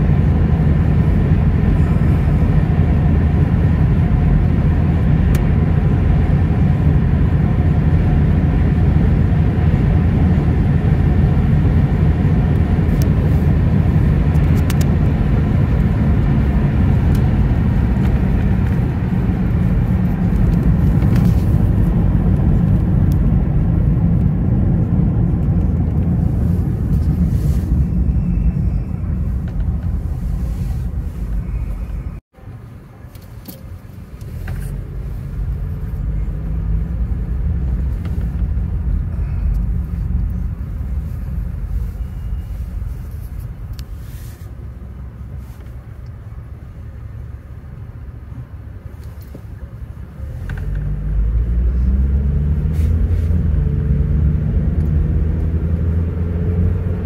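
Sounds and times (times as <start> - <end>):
tyres rumbling on road: 0.0 - 57.0
wind and traffic hiss: 0.0 - 57.0.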